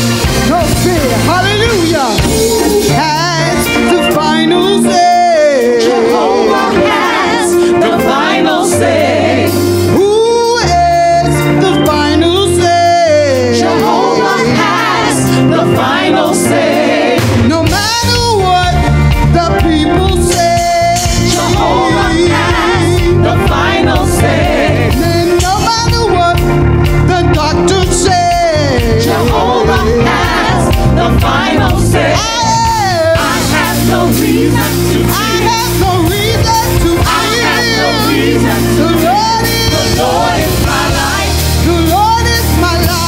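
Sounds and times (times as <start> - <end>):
gospel group singing: 0.0 - 43.0
instrumental accompaniment: 0.0 - 43.0
steady bass line: 0.0 - 43.0.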